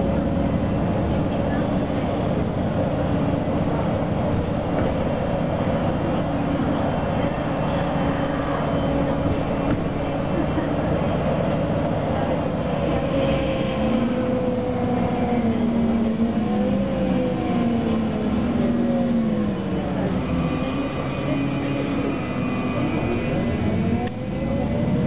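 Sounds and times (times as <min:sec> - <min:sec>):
bus engine whine: 0:00.0 - 0:25.0
road rumble: 0:00.0 - 0:25.0.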